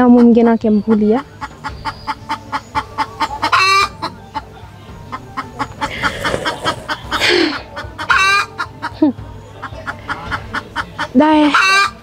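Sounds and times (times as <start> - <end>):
background music: 0.0 - 12.0
chickens clucking: 0.0 - 12.0.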